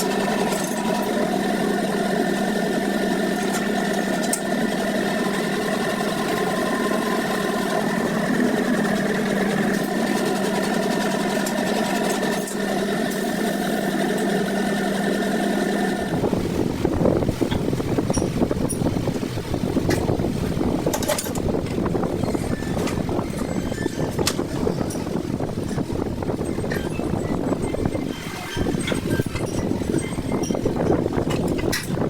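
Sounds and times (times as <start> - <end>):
machine humming steadily: 0.0 - 32.0
rough noisy rumble: 0.0 - 32.0.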